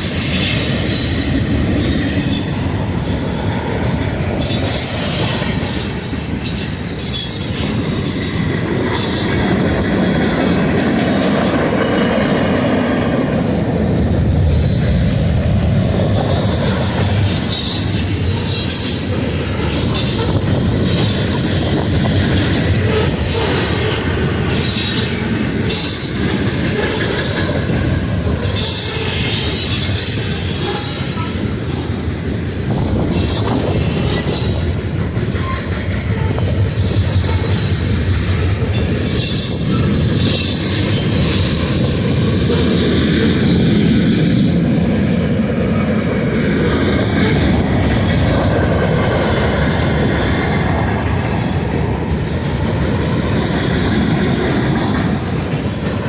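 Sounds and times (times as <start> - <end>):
train cars clacking: 0.0 - 56.0
train wheels rumbling on rail: 0.0 - 56.0.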